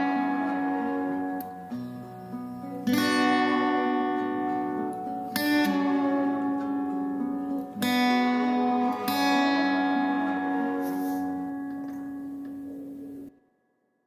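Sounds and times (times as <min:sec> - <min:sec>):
guitar chords ringing: 0:00.0 - 0:13.4.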